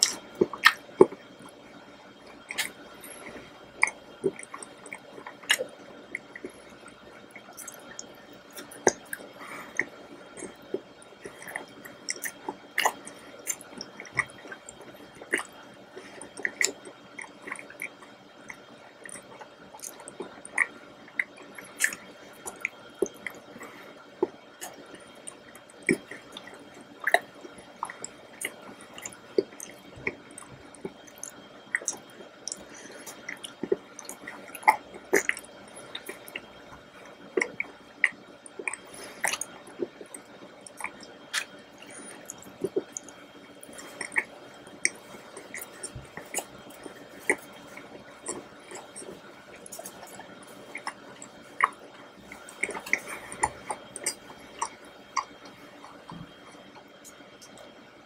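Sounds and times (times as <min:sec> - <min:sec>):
wet chewing and smacking: 0:00.0 - 0:57.7.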